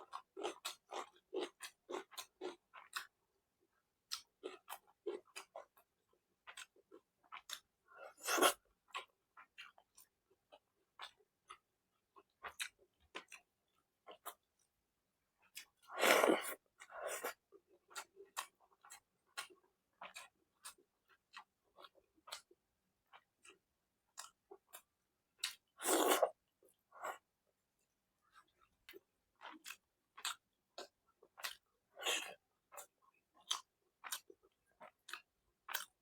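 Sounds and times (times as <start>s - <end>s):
wet chewing and lip-smacking: 0.0s - 3.2s, 4.0s - 14.7s, 15.4s - 27.2s, 27.8s - 36.0s.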